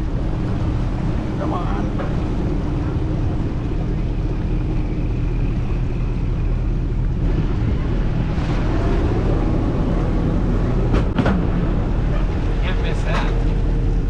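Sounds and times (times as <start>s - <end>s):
boat motor rumbling: 0.0s - 14.0s
water noise: 0.0s - 14.0s
wind: 0.0s - 14.0s.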